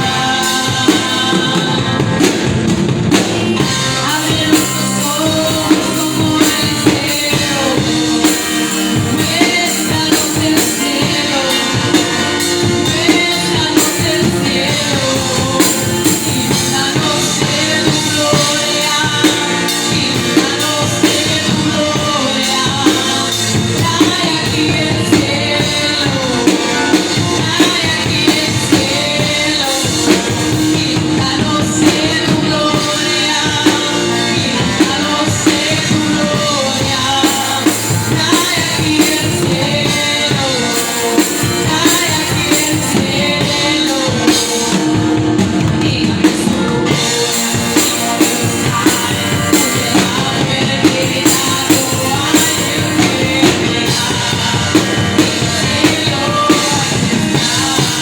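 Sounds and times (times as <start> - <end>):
drum kit rock beat: 0.0 - 58.0.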